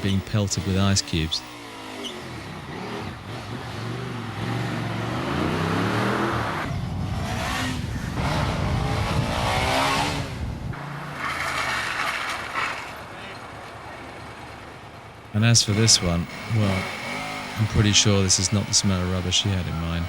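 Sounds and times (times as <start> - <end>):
motorcycle engine revving: 0.0 - 20.0
spinning tyre hissing: 0.0 - 20.0.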